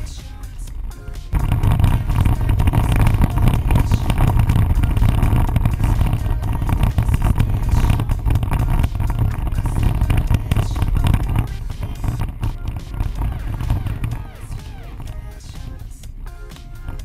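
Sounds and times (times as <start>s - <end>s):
engine and tyres rumbling: 0.0s - 17.0s
vehicle rattling and jolting: 0.7s - 17.0s.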